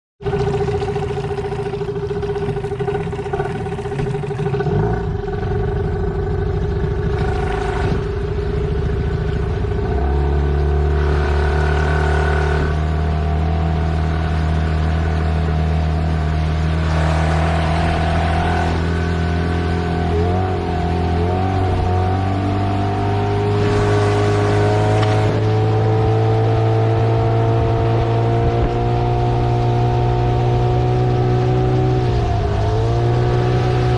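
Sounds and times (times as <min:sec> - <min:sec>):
outboard motor running: 0:00.2 - 0:33.9.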